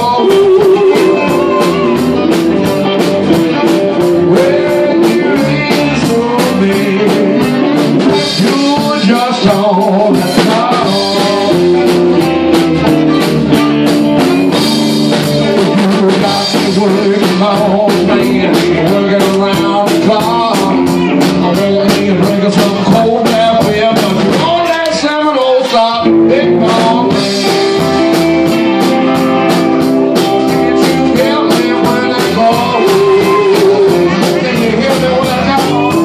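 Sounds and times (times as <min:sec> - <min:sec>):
blues band playing: 0:00.0 - 0:36.0
drum kit beat: 0:00.0 - 0:36.0
electric guitar: 0:00.0 - 0:36.0.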